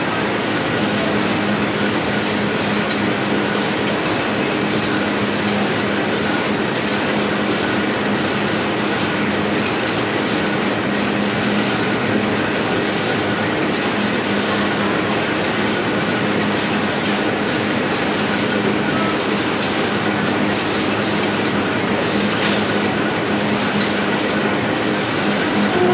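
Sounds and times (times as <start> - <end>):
printing press running: 0.0 - 25.9.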